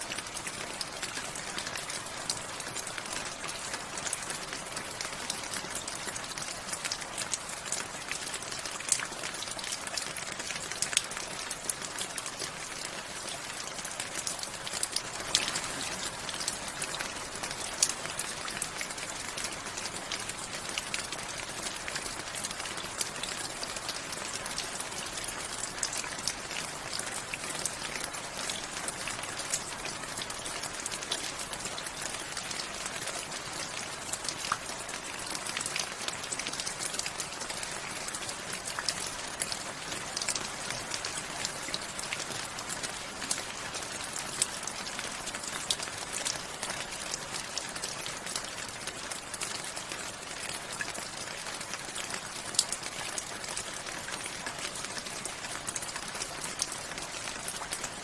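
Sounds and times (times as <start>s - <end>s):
raindrops ticking on hard surface: 0.0s - 58.0s.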